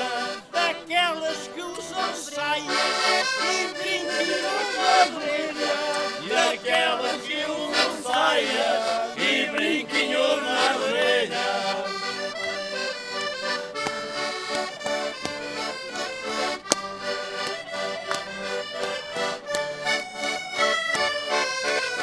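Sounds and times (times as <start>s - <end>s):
concertinas playing lively tune: 0.0s - 22.0s.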